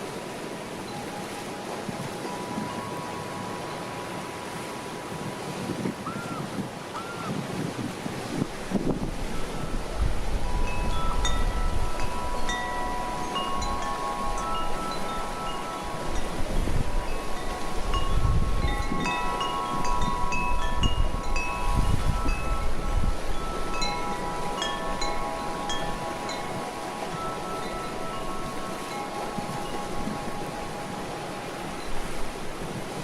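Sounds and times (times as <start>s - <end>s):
wind rumbling on microphone: 0.0s - 33.0s
wind chime ringing: 0.8s - 5.1s, 9.3s - 32.2s.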